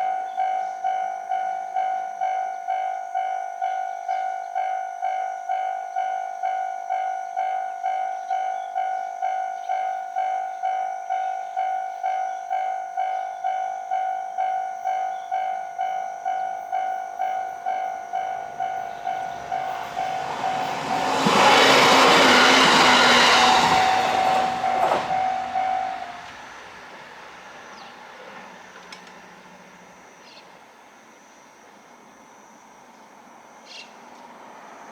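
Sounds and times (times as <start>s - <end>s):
train passing: 4.6s - 31.3s, 33.2s - 34.9s.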